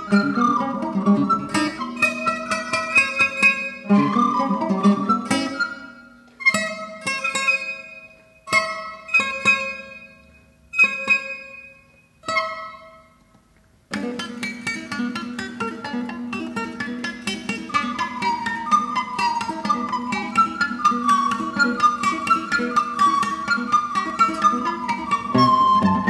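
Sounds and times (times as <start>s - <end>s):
classical guitar playing: 0.0s - 13.3s, 13.9s - 26.0s.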